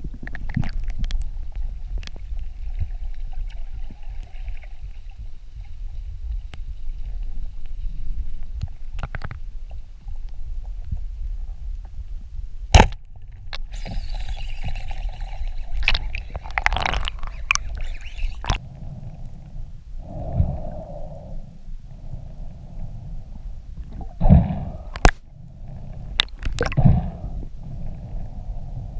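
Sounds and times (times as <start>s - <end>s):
low underwater rumbling: 0.0s - 28.9s.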